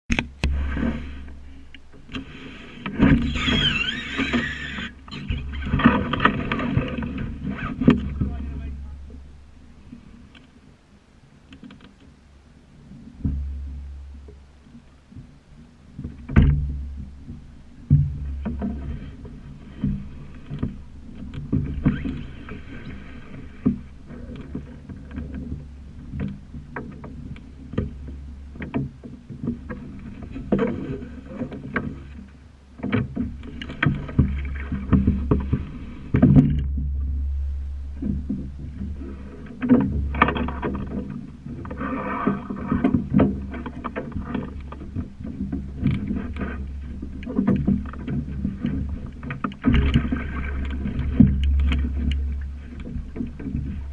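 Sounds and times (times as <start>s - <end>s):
steady low rumble: 0.1s - 3.4s, 4.8s - 11.5s, 12.1s - 53.9s
boat knocks and clatter: 0.1s - 10.6s, 11.4s - 53.9s
water splashing along hull: 0.1s - 53.9s.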